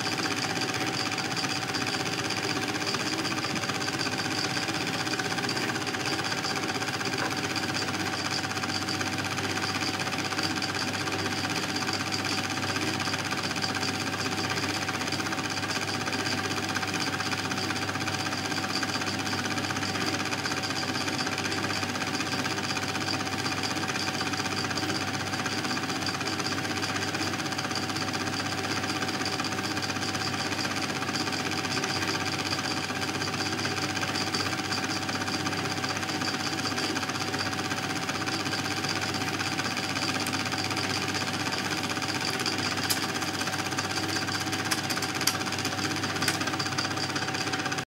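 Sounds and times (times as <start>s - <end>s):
film projector clattering: 0.0s - 47.9s.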